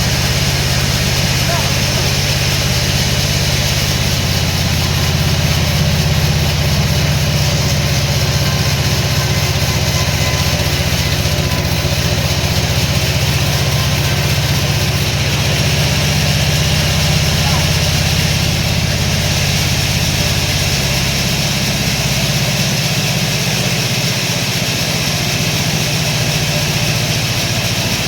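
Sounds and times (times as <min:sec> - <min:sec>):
heavy engine idling: 0:00.0 - 0:28.0.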